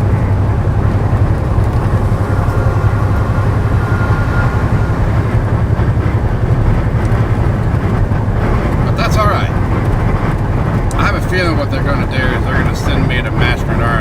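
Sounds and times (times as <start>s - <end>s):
faint high whine: 0.0s - 14.0s
truck engine and road noise: 0.0s - 14.0s.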